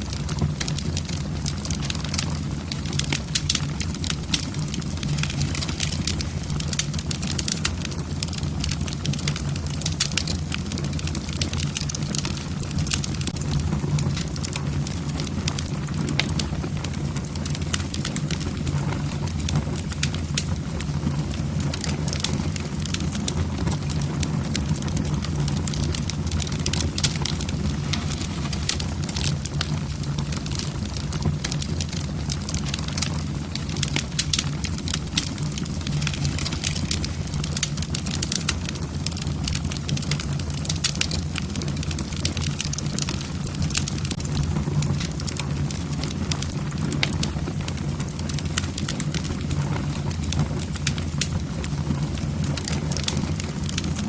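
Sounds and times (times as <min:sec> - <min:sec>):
fire low rumble: 0:00.0 - 0:54.0
logs crackling and popping: 0:00.0 - 0:54.0.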